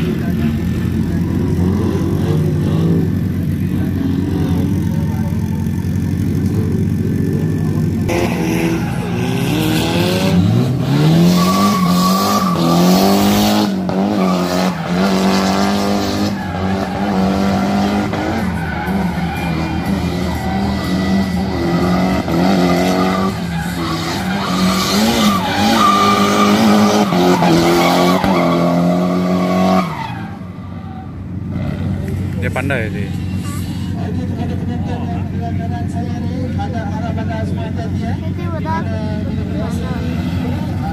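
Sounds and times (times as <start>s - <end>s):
car engine revving: 0.0s - 40.9s
tyres skidding and squealing: 0.0s - 40.9s.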